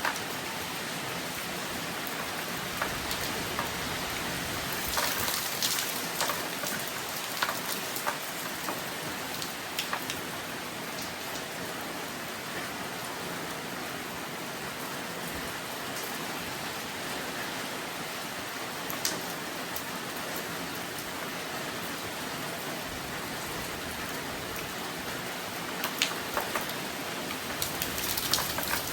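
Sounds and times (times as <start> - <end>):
steady rain: 0.0 - 28.9.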